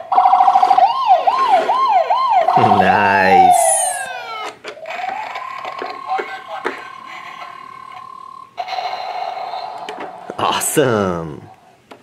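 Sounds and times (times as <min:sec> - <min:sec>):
toy electronic siren warbling: 0:00.1 - 0:10.0.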